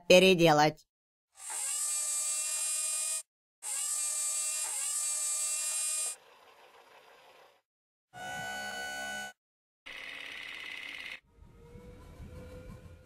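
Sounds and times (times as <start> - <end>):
cartoon electric machine running: 1.4 - 7.6, 8.2 - 13.0.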